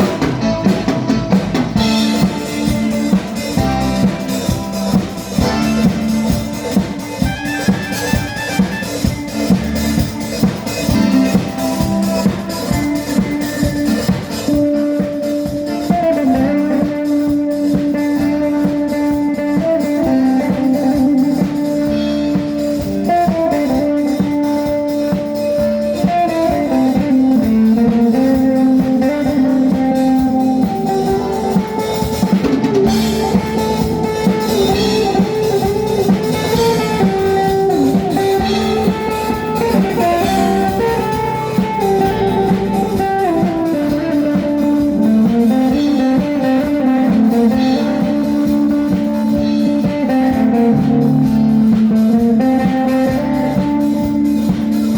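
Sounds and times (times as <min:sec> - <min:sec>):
drum kit: 0:00.0 - 0:54.9
electric guitar melody: 0:00.0 - 0:54.9.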